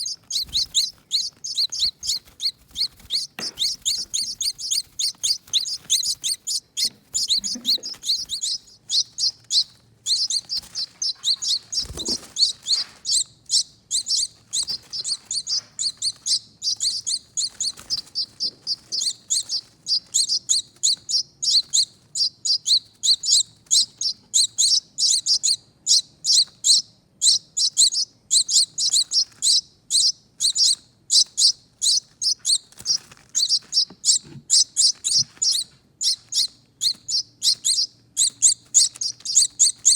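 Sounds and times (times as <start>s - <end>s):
baby finches begging chirps: 0.0s - 39.9s.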